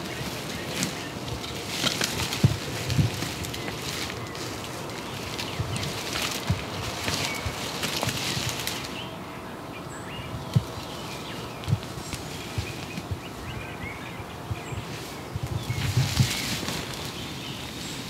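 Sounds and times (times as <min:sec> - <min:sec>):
dry leaves rustling and crunching: 0:00.0 - 0:09.2, 0:10.4 - 0:18.0.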